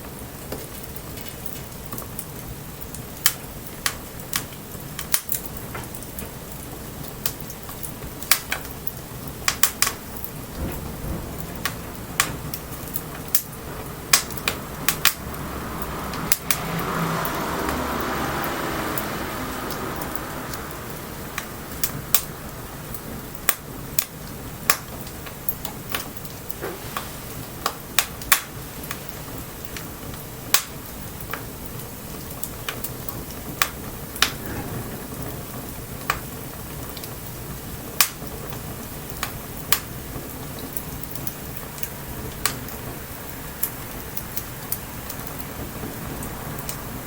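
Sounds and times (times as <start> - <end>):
bonfire crackling and popping: 0.0 - 47.0
light rain hissing: 0.0 - 47.0.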